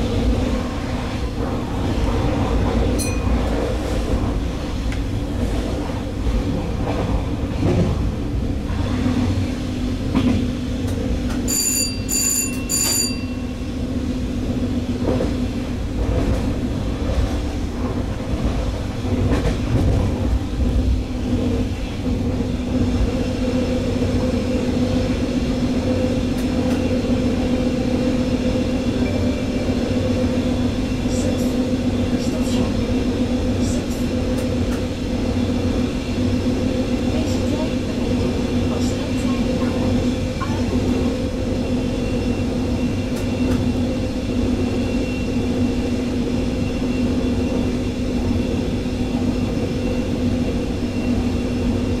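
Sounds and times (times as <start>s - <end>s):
diesel train engine drone: 0.0s - 52.0s
wheels rumbling on rails: 0.0s - 52.0s.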